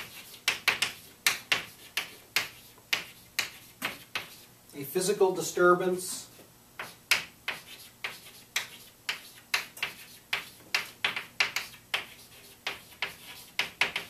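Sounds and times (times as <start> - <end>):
chalk tapping on blackboard: 0.0 - 4.5, 6.8 - 14.0.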